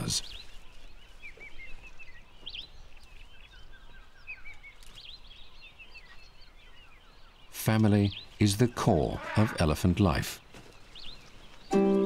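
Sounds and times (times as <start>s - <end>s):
faint outdoor background: 0.0s - 12.0s
small birds chirping: 0.0s - 12.0s.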